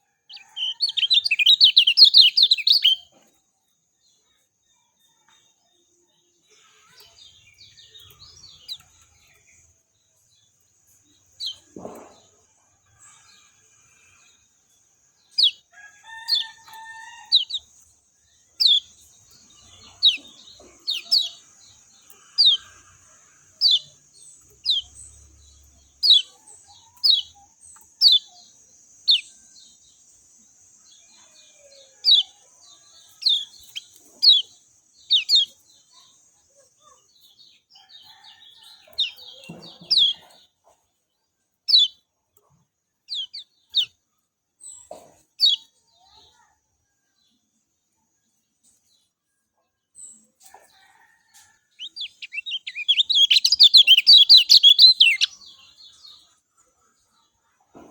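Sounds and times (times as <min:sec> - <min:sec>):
bird chirping: 0:00.0 - 0:40.9, 0:41.5 - 0:46.5, 0:49.9 - 0:57.9.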